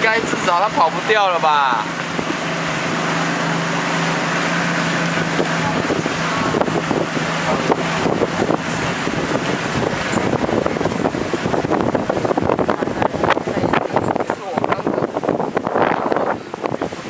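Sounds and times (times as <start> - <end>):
boat engine running: 0.0 - 17.0
water splashing: 0.0 - 17.0
wind noise on microphone: 0.0 - 17.0.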